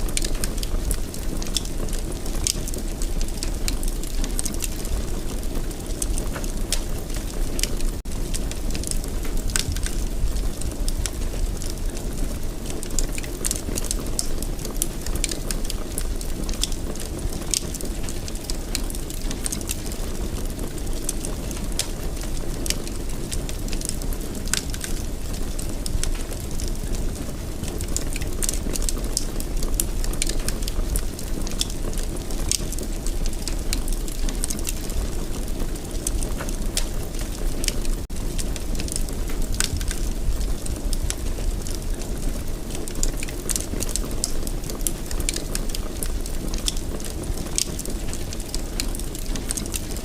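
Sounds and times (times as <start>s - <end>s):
fire pops and snaps: 0.0s - 50.0s
low rumble of flames: 0.0s - 50.0s
wood fire crackling: 0.0s - 50.0s.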